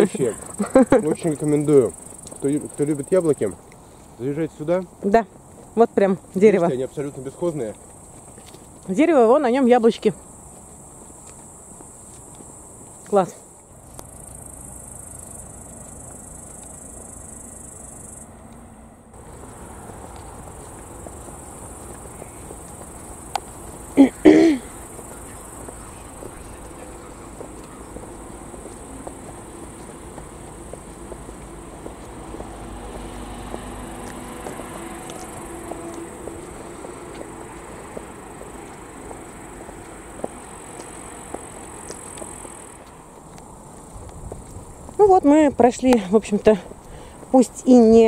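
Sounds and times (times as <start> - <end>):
crickets chirring: 0.0 - 48.0
outdoor background noise: 0.0 - 48.0.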